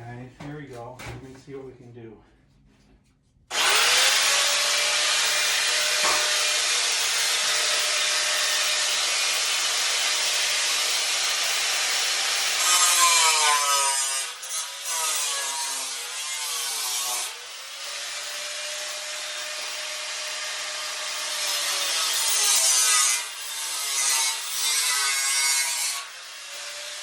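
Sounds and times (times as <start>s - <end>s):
angle grinder cutting steel: 3.5s - 27.0s.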